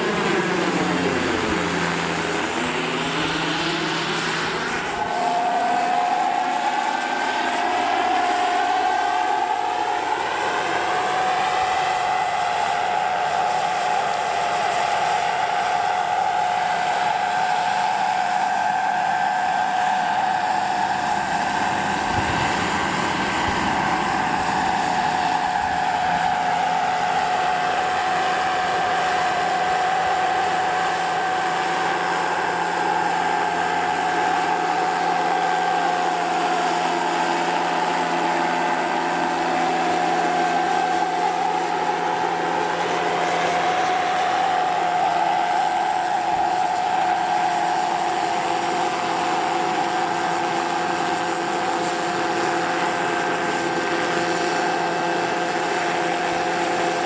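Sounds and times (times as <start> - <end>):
gas turbine whining: 0.0 - 57.0
helicopter rotor noise: 0.0 - 57.0.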